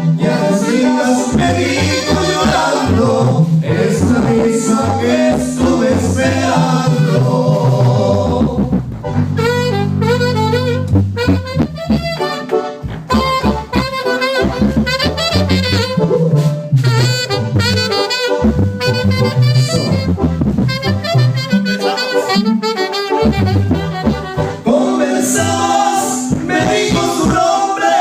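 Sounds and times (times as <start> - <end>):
live band with brass and drums: 0.0 - 27.5.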